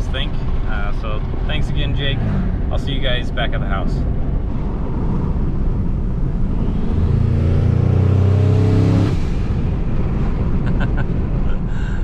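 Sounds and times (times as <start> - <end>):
pickup engine accelerating: 0.0 - 11.6
road noise: 0.0 - 12.0.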